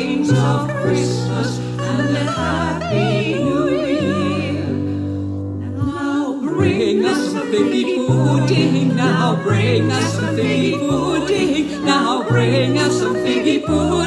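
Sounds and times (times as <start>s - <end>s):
woman singing in harmony: 0.0s - 14.0s.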